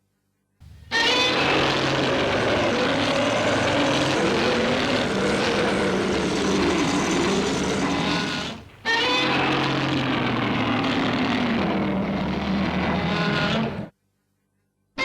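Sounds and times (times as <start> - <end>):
loud roar with wavering tone: 0.7 - 13.9.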